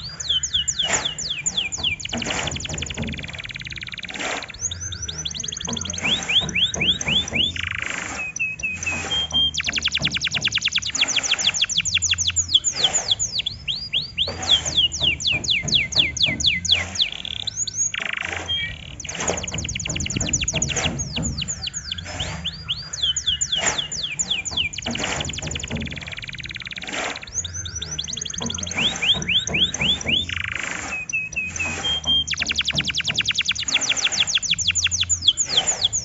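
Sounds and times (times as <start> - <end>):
canary singing: 0.0 - 36.0.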